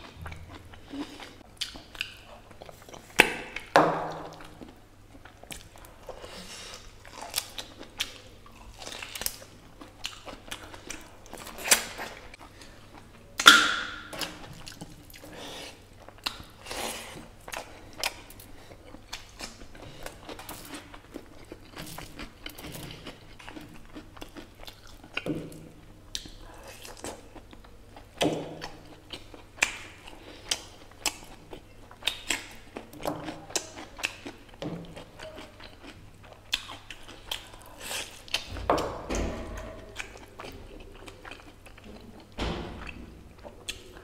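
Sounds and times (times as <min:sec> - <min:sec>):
chewing and biting: 0:00.0 - 0:15.4, 0:16.0 - 0:44.0.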